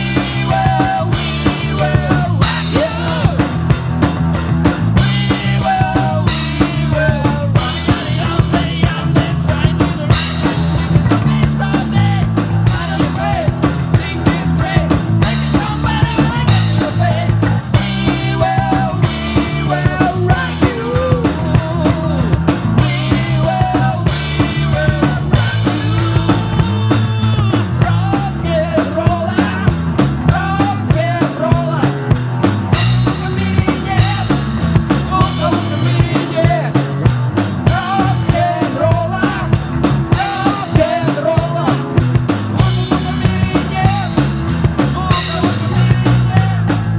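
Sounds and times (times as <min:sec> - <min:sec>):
drum kit beat: 0:00.0 - 0:46.9
live rock band playing: 0:00.0 - 0:46.9.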